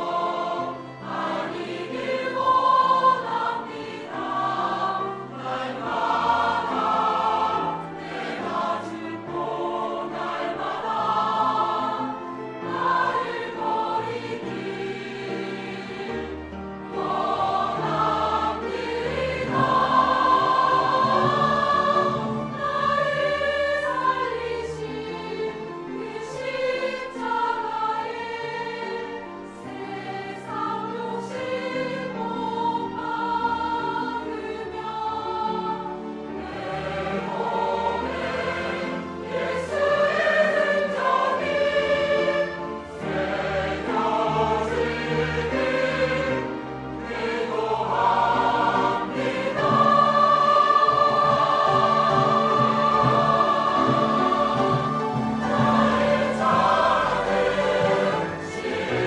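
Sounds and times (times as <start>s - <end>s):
choir singing a hymn: 0.0s - 59.0s
instrumental accompaniment: 0.0s - 59.0s.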